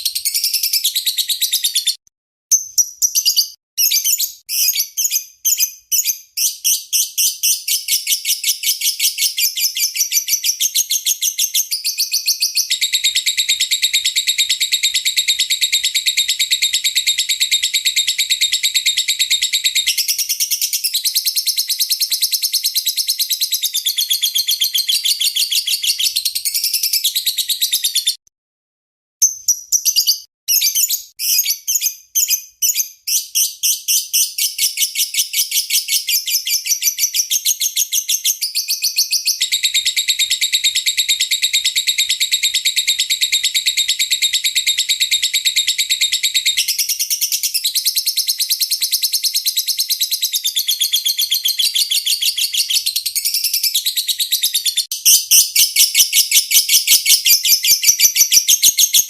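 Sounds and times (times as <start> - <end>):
lovebird chattering trill: 0.2 - 28.2, 29.2 - 59.0.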